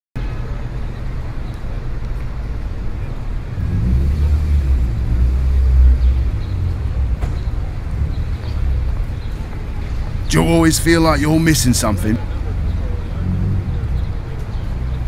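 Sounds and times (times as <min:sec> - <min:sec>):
bus engine rumble: 0:00.4 - 0:15.0.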